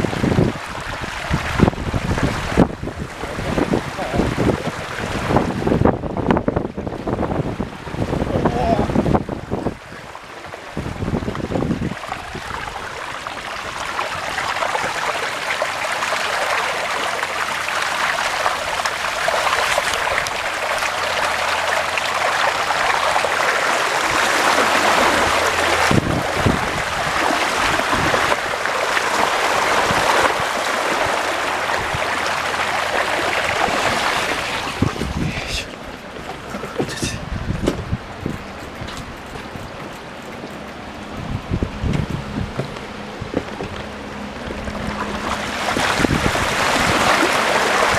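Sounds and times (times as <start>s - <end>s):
floodwater rushing and splashing: 0.0s - 47.9s.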